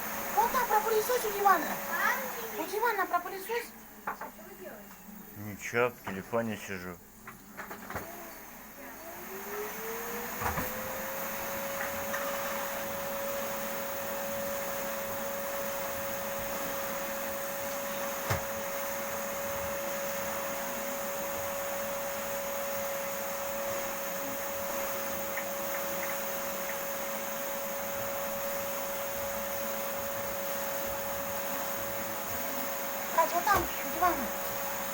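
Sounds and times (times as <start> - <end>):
vacuum cleaner motor whining: 0.0 - 3.6, 7.6 - 34.9.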